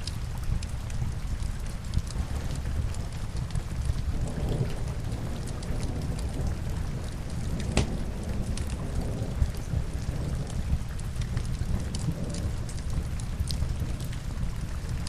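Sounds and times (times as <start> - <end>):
logs crackling in fireplace: 0.0 - 15.0
steady rain: 0.0 - 15.0.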